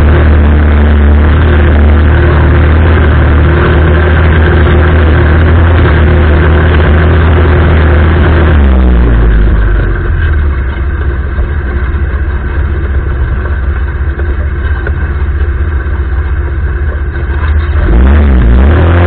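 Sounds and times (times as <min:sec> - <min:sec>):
single-cylinder engine running: 0:00.0 - 0:19.0.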